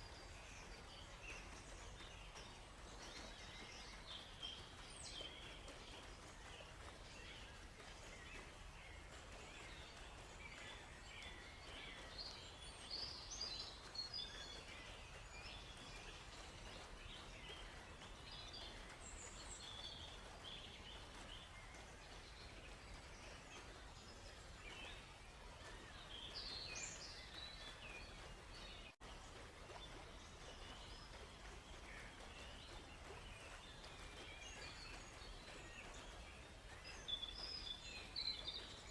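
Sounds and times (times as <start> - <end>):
gentle river flowing: 0.0 - 38.9
songbirds chirping: 0.0 - 38.9.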